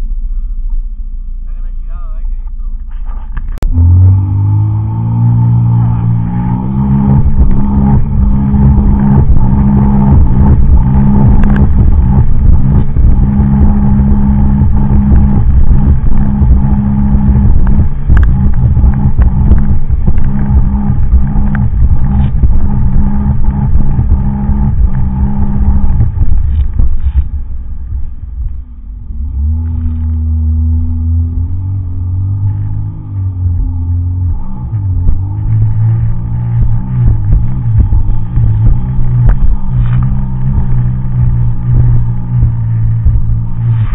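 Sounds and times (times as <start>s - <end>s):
watercraft engine at high revs: 3.6s - 27.2s, 29.3s - 43.9s.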